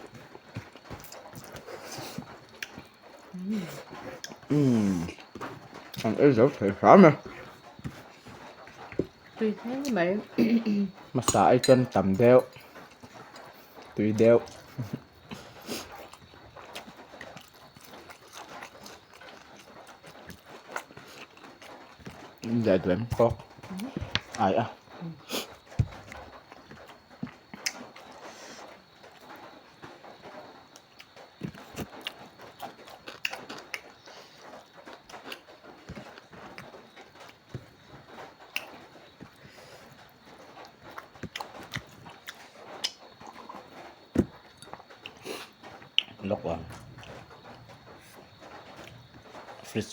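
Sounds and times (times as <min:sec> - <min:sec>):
person chewing with wet smacks: 0:00.0 - 0:10.0, 0:10.9 - 0:49.9.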